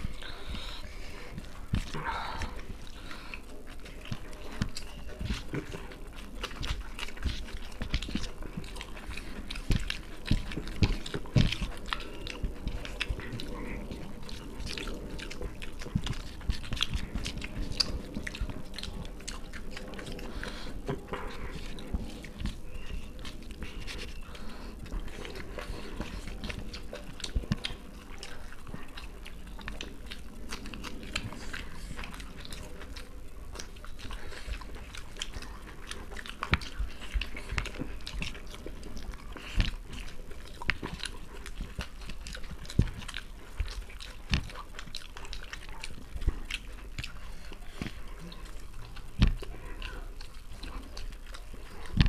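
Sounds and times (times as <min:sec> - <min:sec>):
low steady hum: 0:00.0 - 0:52.0
mouth smacks and clicks: 0:00.0 - 0:52.0
people chewing food: 0:00.0 - 0:52.0.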